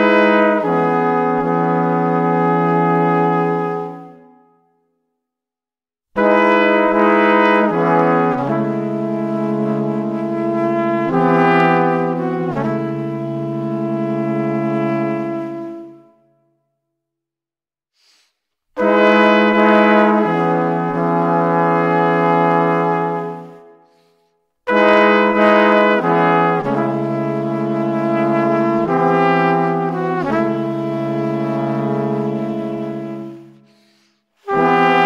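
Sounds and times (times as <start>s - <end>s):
slow brass melody: 0.0s - 5.0s, 6.2s - 16.6s, 18.8s - 35.0s.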